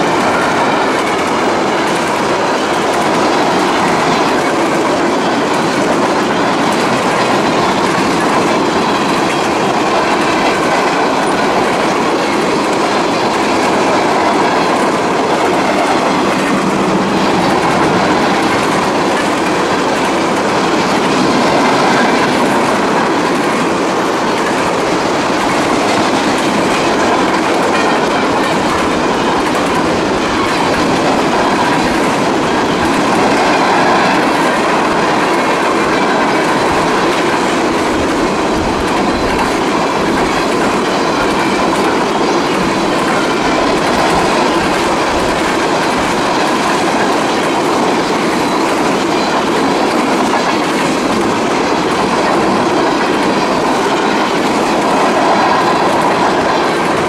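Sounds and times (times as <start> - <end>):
freight train rumbling past: 0.0 - 57.0
wheels clickety-clack: 0.0 - 57.0.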